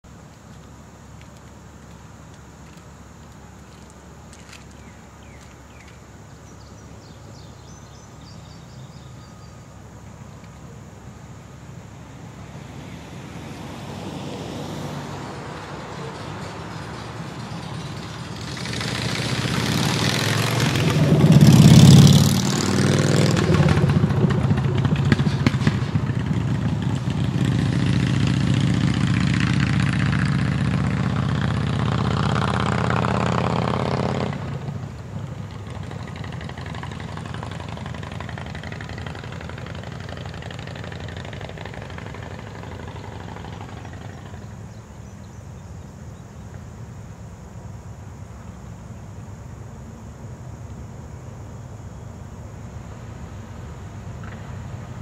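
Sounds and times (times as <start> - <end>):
vehicle engine and road noise passing: 0.0 - 55.0.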